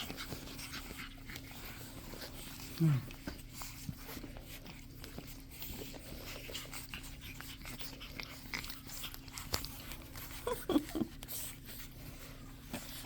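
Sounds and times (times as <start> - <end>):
puppy whimpers: 0.0 - 12.0
puppies clicking and scuffling: 0.0 - 13.0.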